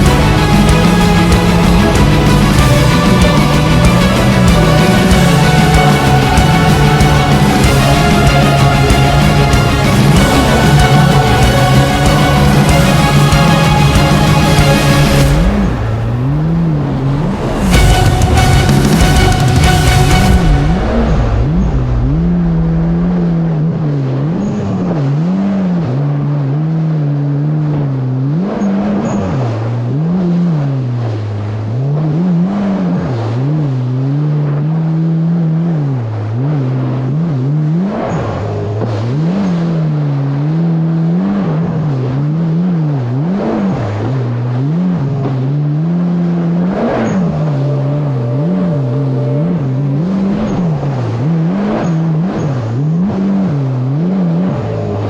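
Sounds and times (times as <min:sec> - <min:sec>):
jet ski engine revving: 0:00.0 - 0:55.0.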